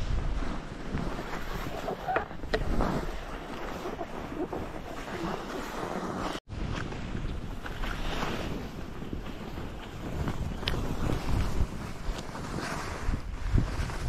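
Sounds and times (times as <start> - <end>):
skis scraping over snow: 0.0 - 14.0
snow crunches: 0.0 - 14.0
wind on microphone: 0.0 - 14.0.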